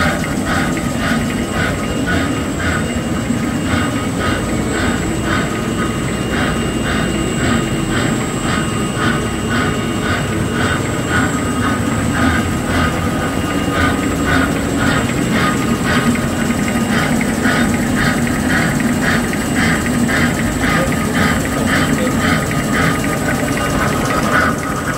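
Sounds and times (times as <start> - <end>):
machine drone: 0.0 - 24.9
regular machine clatter: 0.0 - 24.9
steady high whine: 0.0 - 24.9.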